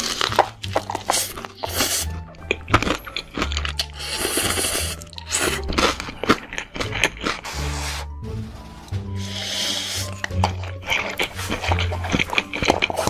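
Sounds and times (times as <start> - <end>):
crunching and chewing: 0.0 - 7.9, 9.2 - 13.0
background music: 0.0 - 13.0.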